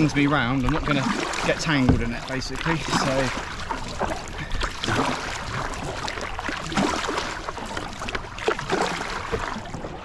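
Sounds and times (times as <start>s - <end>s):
paddle strokes splashing: 0.0s - 10.0s
water slapping against hull: 0.0s - 10.0s.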